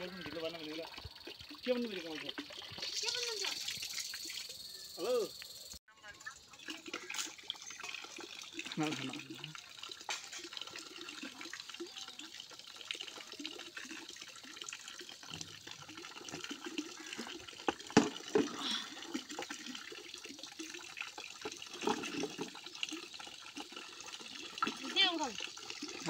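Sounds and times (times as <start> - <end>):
water running into plastic basin: 0.0 - 4.6, 6.2 - 26.0.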